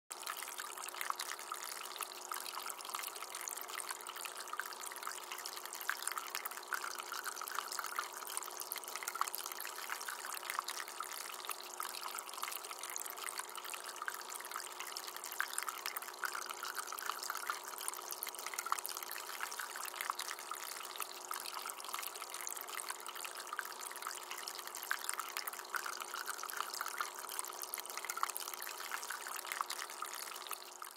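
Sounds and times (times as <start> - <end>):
water trickling and splashing: 0.1 - 30.9.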